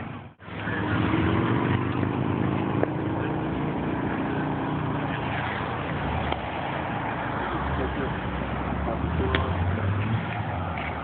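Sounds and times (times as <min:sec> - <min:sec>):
street noise: 0:00.0 - 0:11.0
vehicle engine running: 0:00.0 - 0:11.0.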